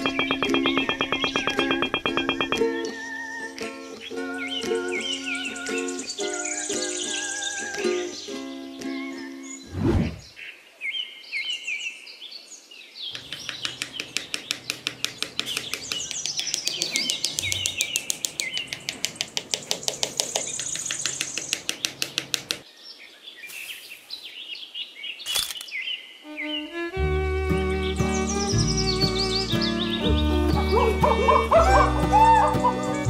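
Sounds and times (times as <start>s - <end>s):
birds chirping: 0.0s - 12.2s, 12.8s - 33.0s.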